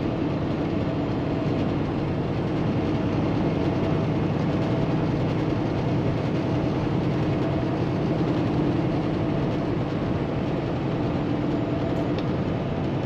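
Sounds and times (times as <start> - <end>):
diesel truck engine running: 0.0 - 13.0
road and tyre noise: 0.0 - 13.0.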